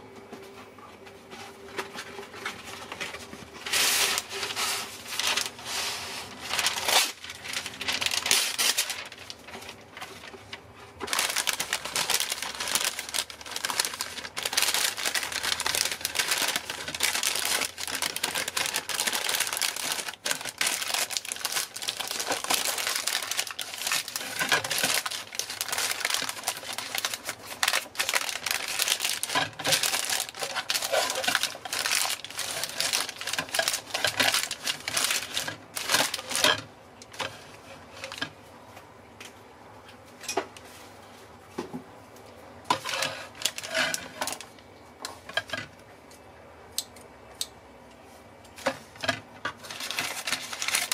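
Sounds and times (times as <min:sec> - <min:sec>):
baking paper crinkling: 0:01.6 - 0:38.4, 0:42.7 - 0:45.7, 0:48.6 - 0:50.9.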